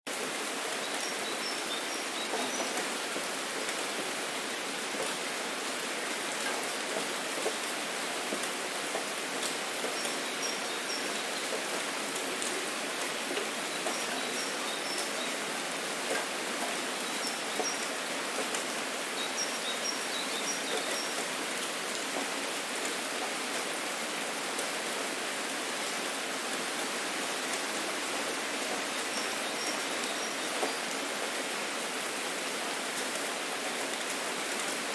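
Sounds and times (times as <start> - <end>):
rain drops ticking: 0.1 - 34.9
steady rain: 0.1 - 34.9.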